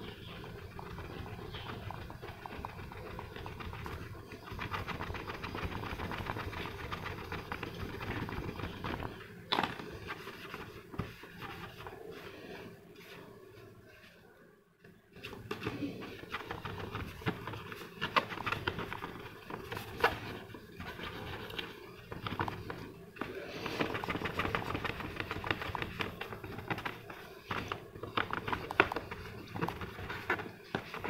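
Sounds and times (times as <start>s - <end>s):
cloth rubbing on plastic: 0.0s - 14.2s, 15.1s - 31.0s.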